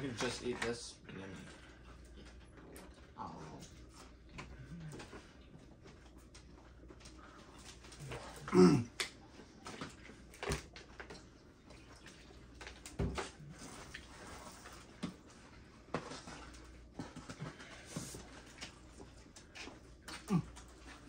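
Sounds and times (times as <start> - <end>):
eating and handling noises: 0.0 - 21.0.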